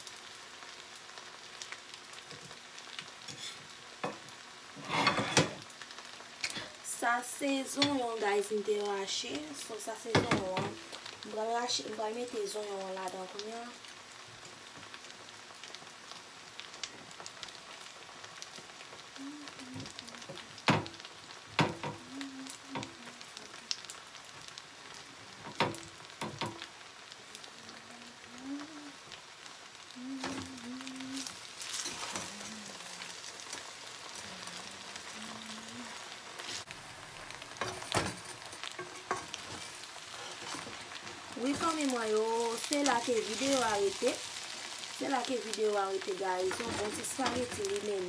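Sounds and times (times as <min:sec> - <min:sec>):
spaghetti sauce sizzling in a pot: 0:00.0 - 0:48.0.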